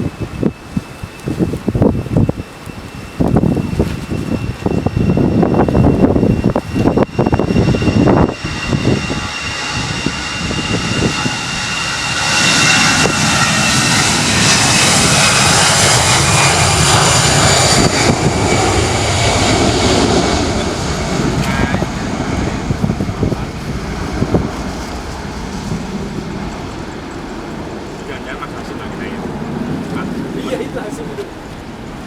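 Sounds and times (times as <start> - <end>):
jet engines passing: 0.0 - 32.0
wind buffeting microphone: 0.0 - 32.0.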